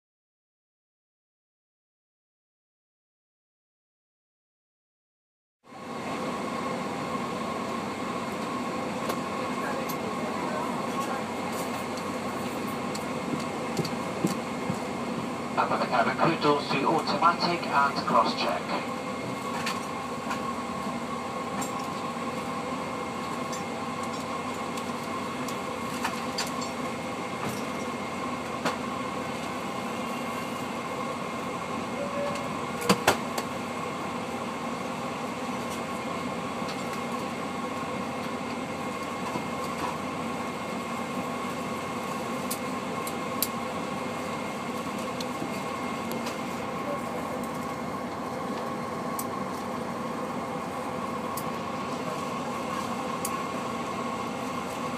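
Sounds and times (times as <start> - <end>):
airplane cabin drone: 5.6 - 54.9.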